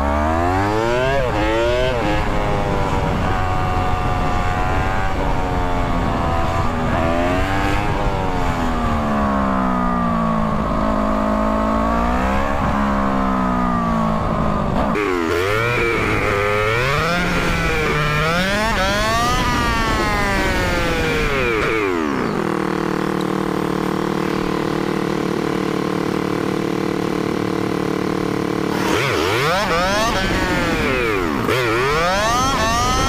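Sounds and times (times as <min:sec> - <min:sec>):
motorcycle engine revving: 0:00.0 - 0:33.0
wind and road noise: 0:00.0 - 0:33.0.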